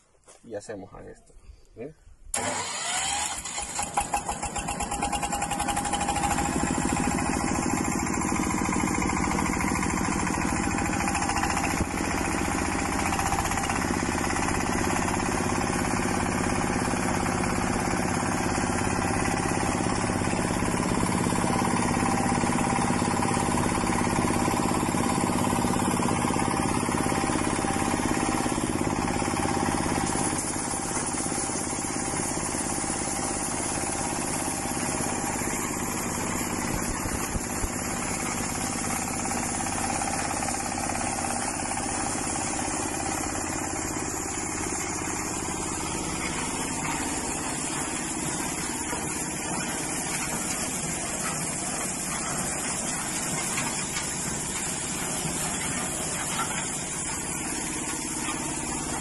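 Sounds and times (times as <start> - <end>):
diesel engine chugging: 2.4 - 59.0.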